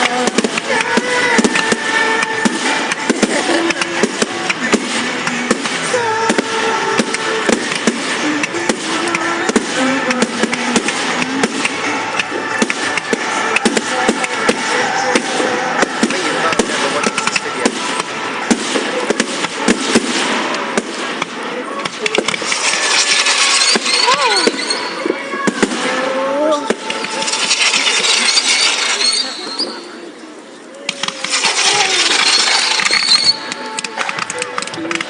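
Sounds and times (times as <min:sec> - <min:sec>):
fireworks hissing: 0:00.0 - 0:30.2, 0:30.8 - 0:35.0
fireworks crackling and banging: 0:00.0 - 0:35.0.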